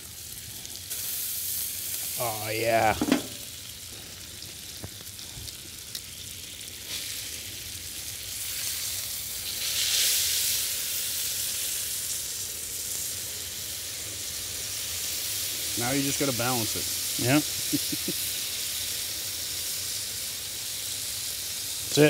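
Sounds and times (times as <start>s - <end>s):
meat sizzling on griddle: 0.0s - 22.0s.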